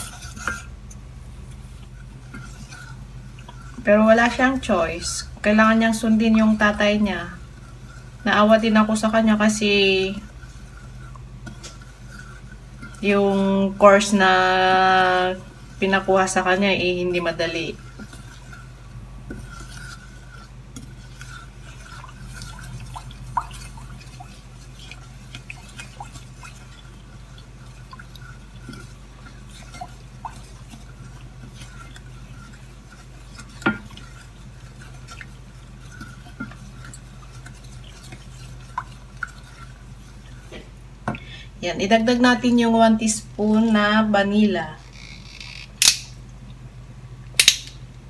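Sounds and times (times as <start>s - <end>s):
wooden spoon stirring in saucepan: 0.0s - 45.2s
steady low hum: 0.0s - 48.0s.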